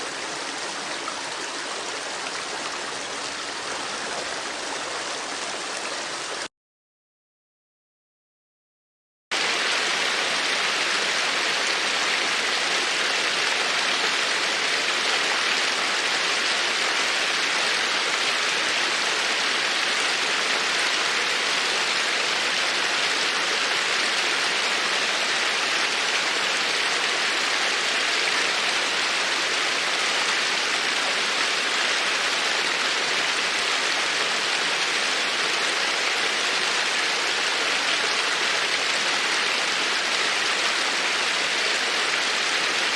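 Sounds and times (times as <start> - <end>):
babbling creek water: 0.0 - 6.5, 9.4 - 42.9.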